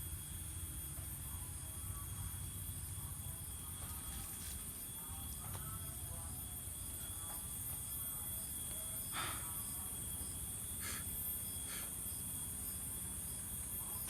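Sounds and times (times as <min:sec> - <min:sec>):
faint pulsing chirp: 0:00.0 - 0:14.0
night insects chorus: 0:00.0 - 0:14.0.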